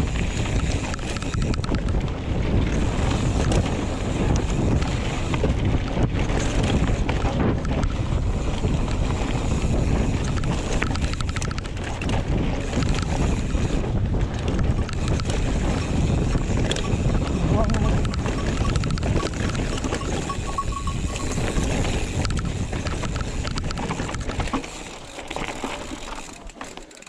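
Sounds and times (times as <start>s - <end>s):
wind buffeting microphone: 0.0s - 24.8s
bike chain and frame clattering: 0.0s - 27.0s.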